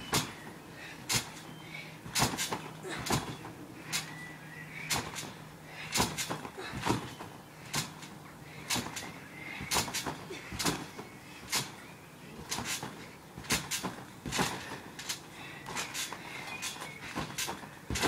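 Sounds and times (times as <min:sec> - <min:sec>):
trampoline mat and springs: 0:00.0 - 0:18.0.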